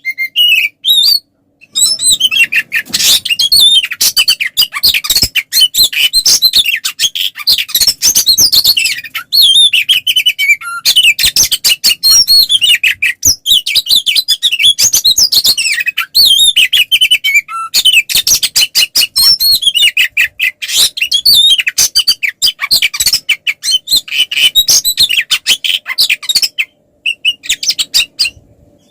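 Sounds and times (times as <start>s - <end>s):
bird singing chirps and trills: 0.0s - 28.9s.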